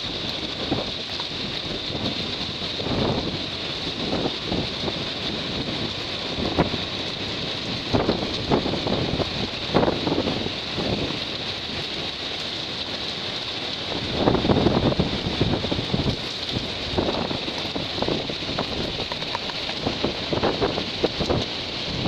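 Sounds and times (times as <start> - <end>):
wind and rain rushing: 0.0 - 22.0
wind gusts buffeting microphone: 0.0 - 22.0.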